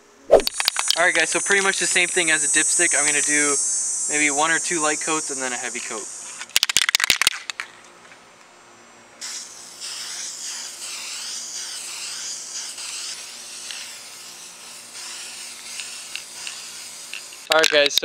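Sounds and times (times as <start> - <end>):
spray paint can hissing: 0.3 - 7.4, 9.2 - 18.0.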